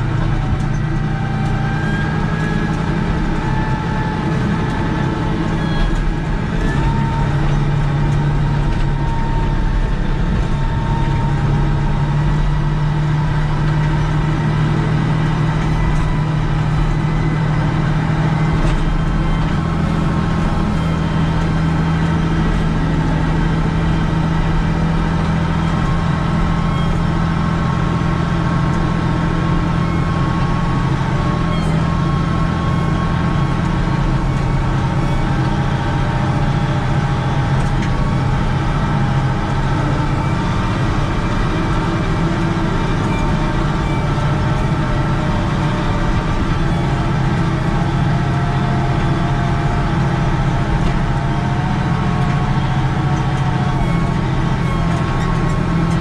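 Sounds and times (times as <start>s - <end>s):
wheel loader diesel engine running: 0.0s - 56.0s.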